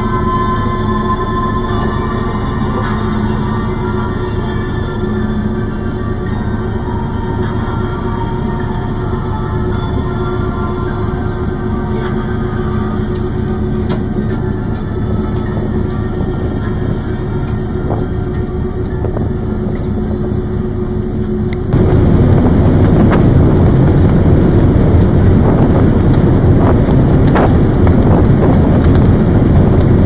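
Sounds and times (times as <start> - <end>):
churned propeller wake: 0.0 - 30.0
ship engine humming: 0.0 - 30.0
water rushing along hull: 0.0 - 30.0
wind on microphone: 0.0 - 30.0.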